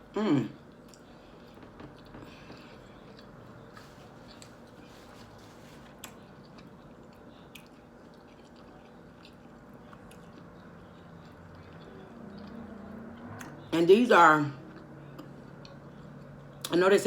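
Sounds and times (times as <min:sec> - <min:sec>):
person chewing food: 0:00.6 - 0:13.7, 0:14.7 - 0:16.7.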